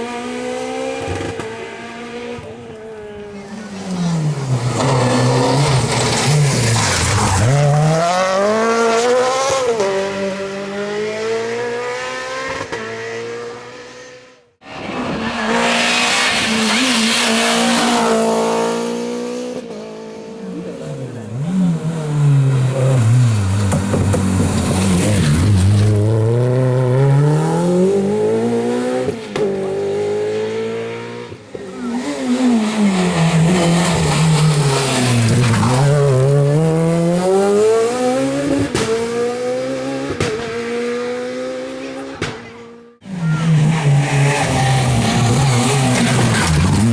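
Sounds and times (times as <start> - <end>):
rally car engines revving: 0.0 - 46.9.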